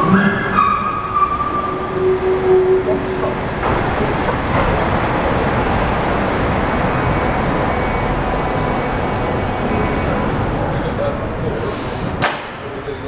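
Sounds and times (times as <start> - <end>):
steam train rushing noise: 0.0 - 12.4.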